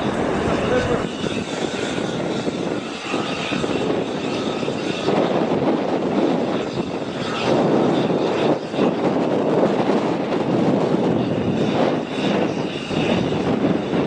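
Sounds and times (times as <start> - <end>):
airplane engine rushing: 0.0 - 14.0.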